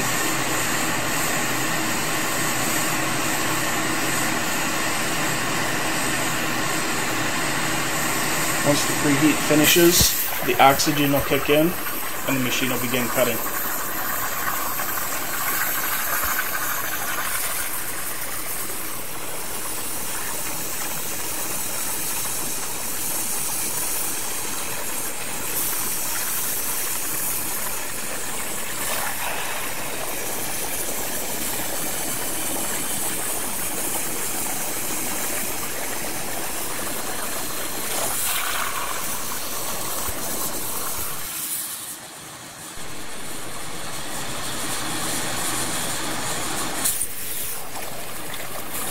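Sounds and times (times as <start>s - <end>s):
cutting torch hissing: 0.0s - 48.9s.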